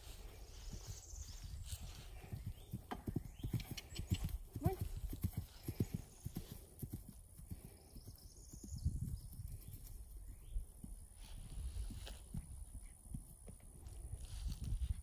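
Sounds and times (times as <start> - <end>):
horse hoofbeats on grass: 0.0 - 15.0.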